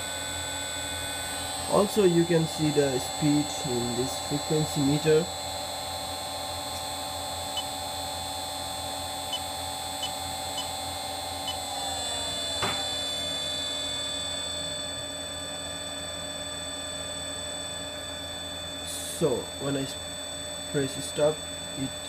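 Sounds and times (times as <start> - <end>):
electric motor hum and whine: 0.0 - 22.0.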